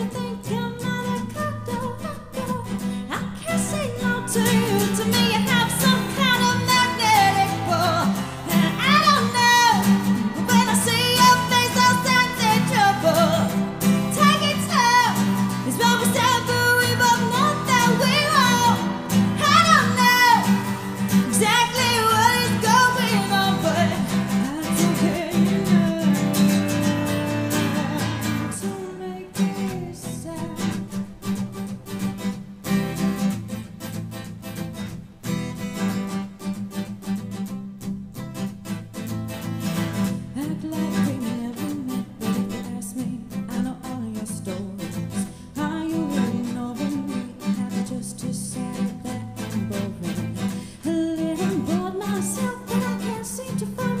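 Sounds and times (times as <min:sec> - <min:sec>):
woman singing: 0:00.0 - 0:31.8, 0:39.7 - 0:54.0
strummed acoustic guitar: 0:00.0 - 0:54.0.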